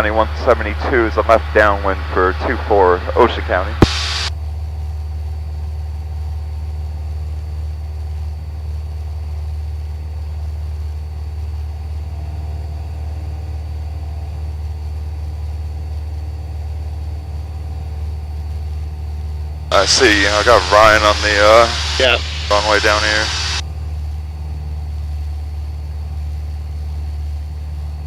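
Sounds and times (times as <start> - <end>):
light aircraft engine drone in cabin: 0.0 - 28.0.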